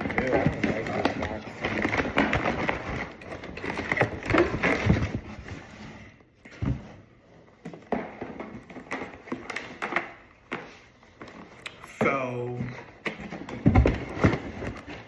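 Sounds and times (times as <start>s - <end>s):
cardboard packaging rustling: 0.0s - 11.8s, 12.6s - 15.0s.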